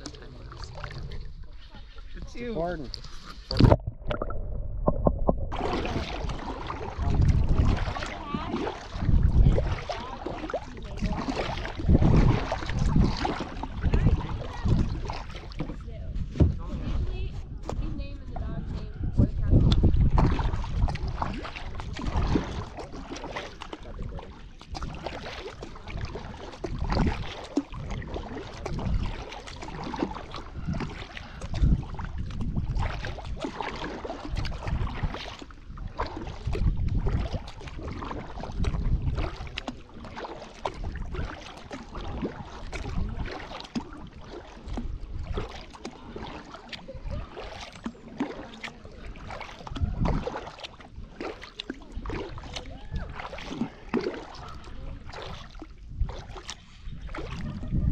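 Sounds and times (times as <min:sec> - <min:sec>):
wind rumble on microphone: 0:00.0 - 0:48.3, 0:48.9 - 0:57.9
paddle splashes and dripping: 0:00.0 - 0:57.9.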